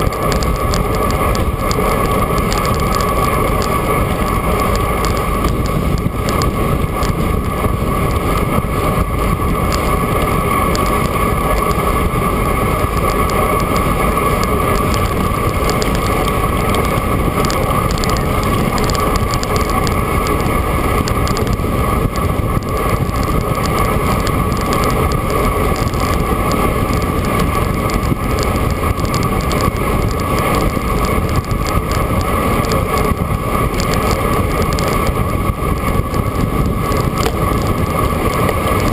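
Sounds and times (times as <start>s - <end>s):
constant hum: 0.0s - 38.9s
road noise: 0.0s - 38.9s
wind rush: 0.0s - 38.9s.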